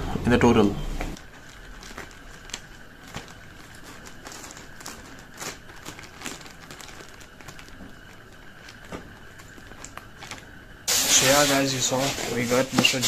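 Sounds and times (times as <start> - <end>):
plastic bag crinkling: 1.2 - 13.0.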